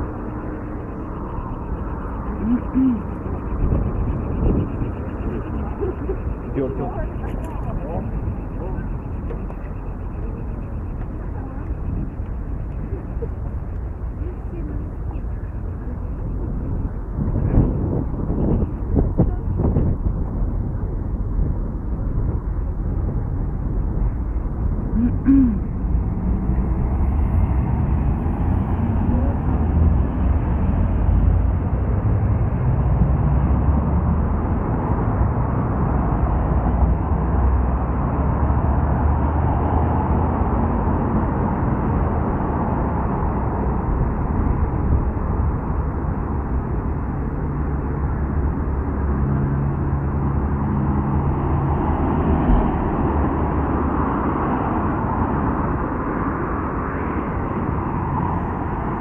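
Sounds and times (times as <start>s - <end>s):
cars driving past: 0.0s - 59.0s
engine hum: 0.0s - 59.0s.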